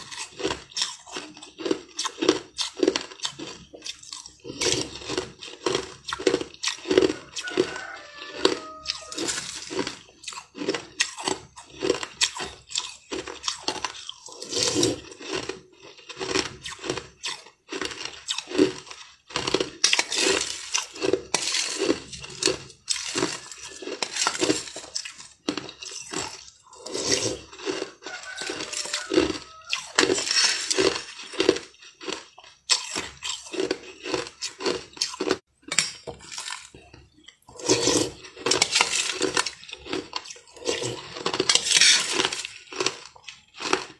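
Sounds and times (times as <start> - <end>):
chewing crushed ice: 0.0 - 43.9.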